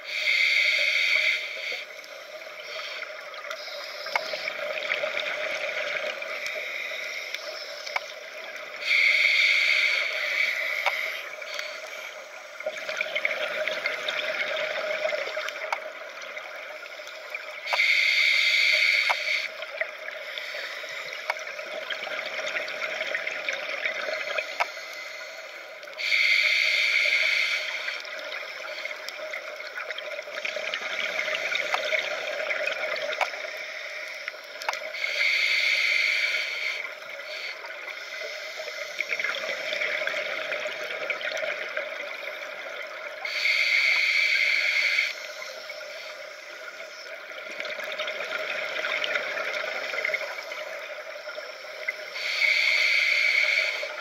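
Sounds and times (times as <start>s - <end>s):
scuba regulator inhalations: 0.0s - 15.7s, 17.6s - 21.6s, 24.0s - 29.5s, 31.0s - 40.8s, 43.2s - 47.0s, 48.1s - 54.0s
faint clicks: 0.7s - 54.0s.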